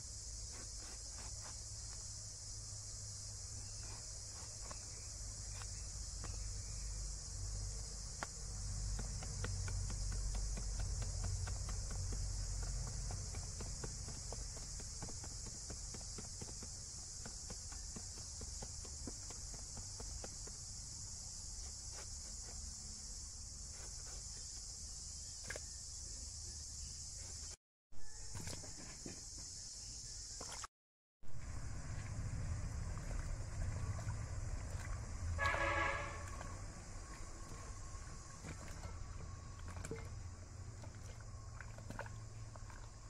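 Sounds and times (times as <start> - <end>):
insect chorus: 0.0 - 30.7, 31.3 - 43.0.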